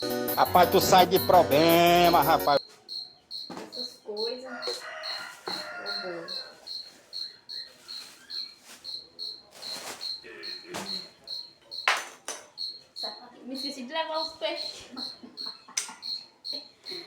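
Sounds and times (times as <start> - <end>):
cricket chirping: 2.6 - 17.0.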